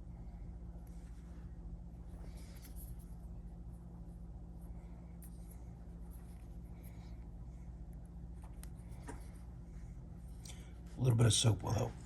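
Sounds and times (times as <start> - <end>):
steady low hum: 0.0 - 12.0
faint scratching and rubbing: 0.8 - 12.0.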